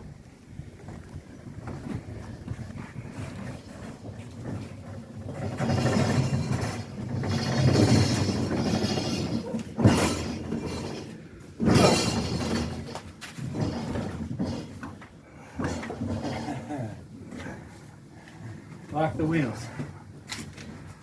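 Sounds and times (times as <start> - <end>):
refrigerator rolling on casters: 0.0 - 21.0.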